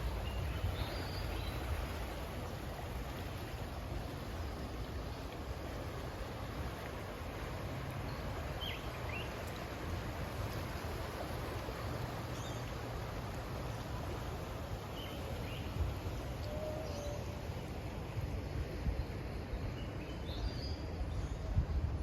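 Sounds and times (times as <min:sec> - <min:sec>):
low rumbling hiss: 0:00.0 - 0:22.0.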